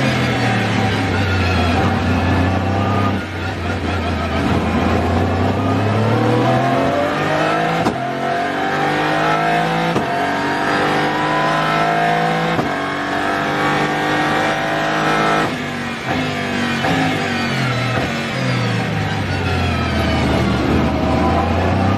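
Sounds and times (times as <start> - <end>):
engine downshifts with throttle blips: 0.0 - 21.9
racing car engine accelerating: 0.0 - 21.9.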